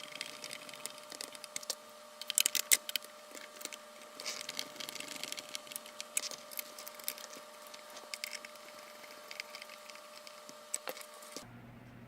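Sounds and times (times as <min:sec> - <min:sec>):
small tools clicking and scraping plastic: 0:00.0 - 0:11.4.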